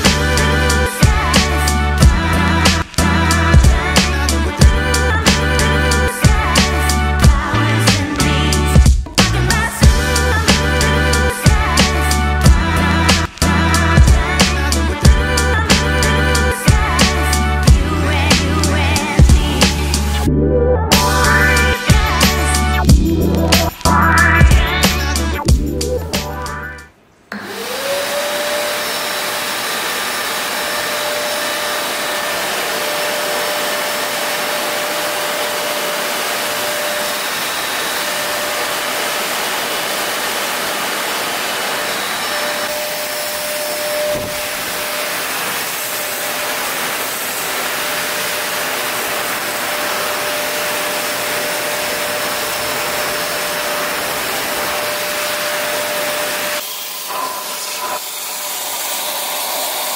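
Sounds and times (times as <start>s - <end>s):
vacuum cleaner running: 0.0s - 26.7s, 27.3s - 59.9s.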